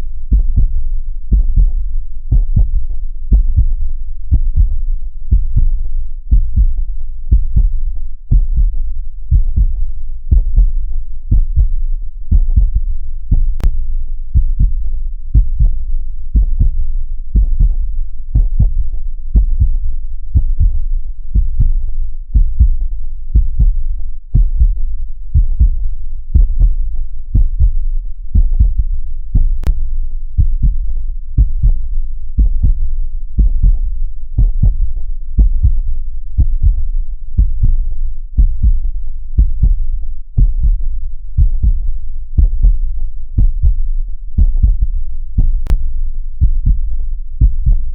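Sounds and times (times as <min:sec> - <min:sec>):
heartbeat thuds: 0:00.3 - 0:29.8, 0:30.4 - 0:47.9.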